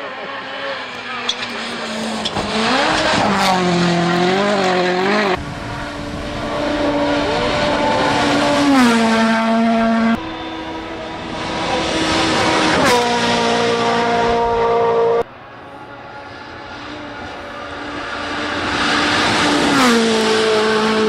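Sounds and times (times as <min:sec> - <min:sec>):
rally car engines at high revs: 0:00.0 - 0:21.0.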